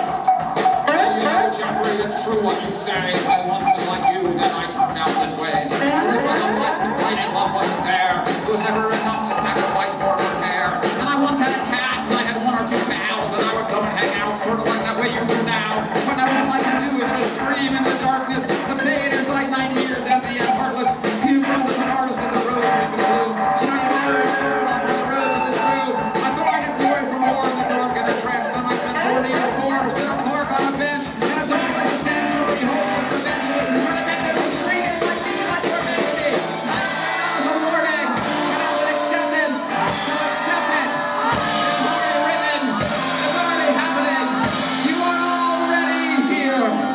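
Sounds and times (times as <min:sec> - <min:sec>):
drums and cymbals: 0:00.0 - 0:46.6
electric guitar: 0:00.0 - 0:46.9
man singing: 0:00.0 - 0:46.9
rock band playing: 0:00.0 - 0:46.9.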